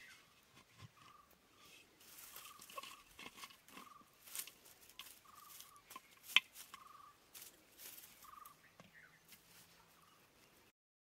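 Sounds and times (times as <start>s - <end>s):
hands rustling dry grass: 1.0s - 10.6s.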